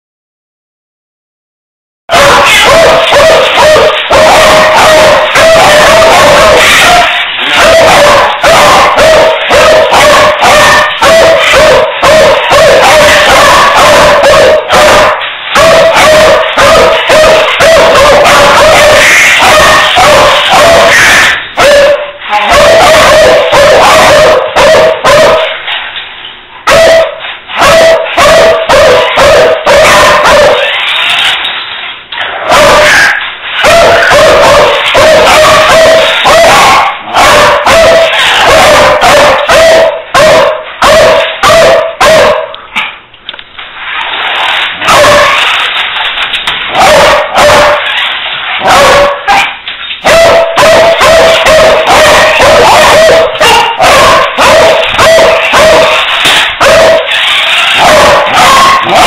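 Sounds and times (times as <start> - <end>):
dogs play-barking: 2.1 - 25.8, 26.6 - 31.6, 32.2 - 42.9, 44.1 - 59.0.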